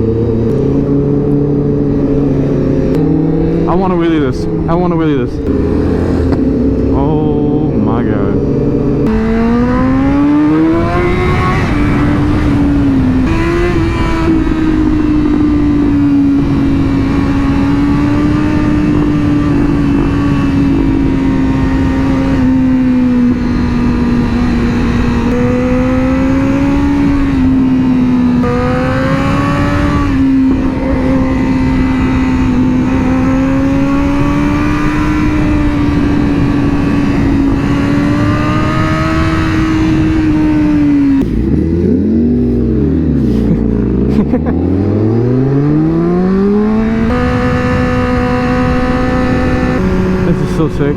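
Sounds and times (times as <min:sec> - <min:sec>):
sportbike engine revving: 0:00.0 - 0:50.9
wind rush: 0:00.0 - 0:50.9.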